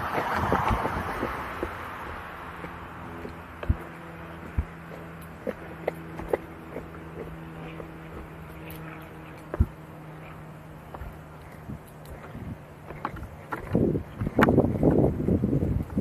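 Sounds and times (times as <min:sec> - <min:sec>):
wheels clacking over joints: 0:00.0 - 0:16.0
wheels rolling on concrete: 0:00.0 - 0:16.0.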